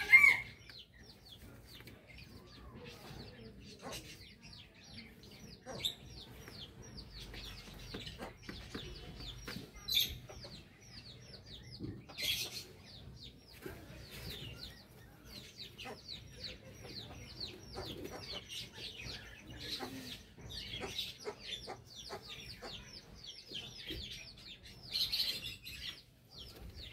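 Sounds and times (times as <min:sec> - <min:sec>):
chickens clucking and calling: 0:00.0 - 0:26.9.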